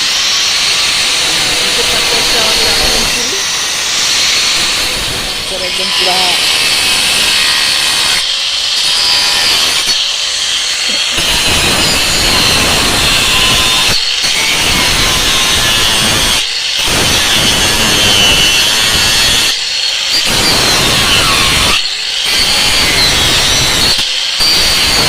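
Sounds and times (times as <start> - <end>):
power saw cutting wood: 0.0 - 25.0.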